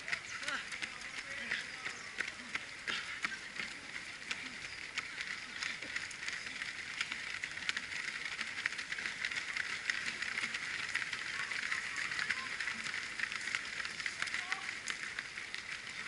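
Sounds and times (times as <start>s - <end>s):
runners' footsteps on asphalt: 0.0s - 16.0s.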